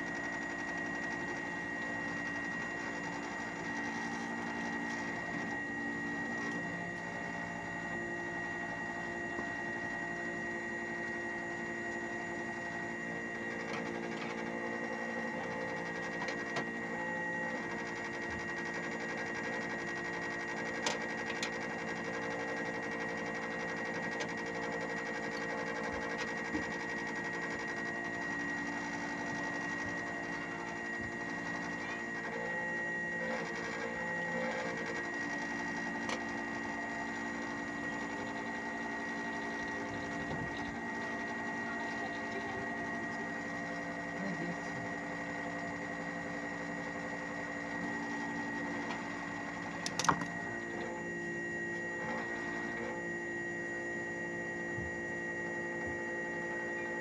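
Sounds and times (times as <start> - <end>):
air conditioner unit humming: 0.0 - 57.0.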